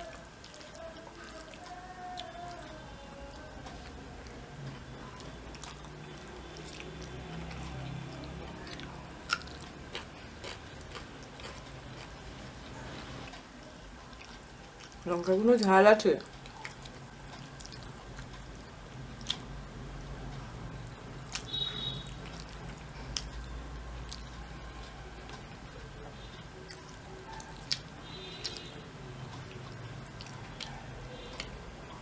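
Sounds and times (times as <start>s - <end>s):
person chewing food: 0.0s - 13.4s, 14.0s - 15.2s, 16.2s - 19.5s, 21.3s - 24.5s, 26.6s - 32.0s
low steady hum: 0.0s - 32.0s.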